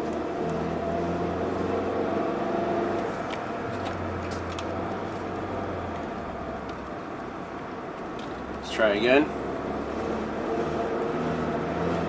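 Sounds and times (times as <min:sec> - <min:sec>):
van engine droning while driving: 0:00.0 - 0:12.0.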